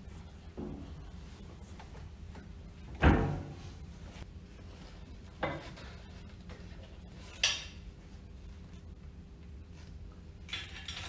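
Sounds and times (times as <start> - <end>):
low workshop hum: 0.0 - 11.0.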